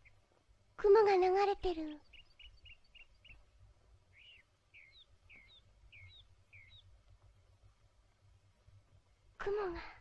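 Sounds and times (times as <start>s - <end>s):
faint bird chirping: 0.0s - 10.0s.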